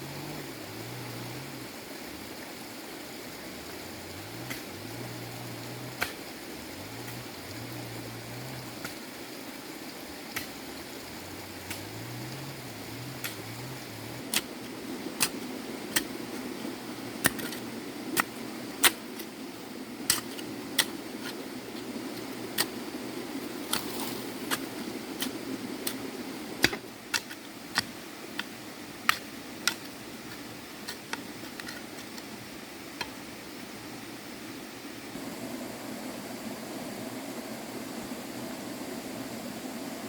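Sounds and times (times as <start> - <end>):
steady low hum: 0.0 - 33.8, 34.8 - 40.0.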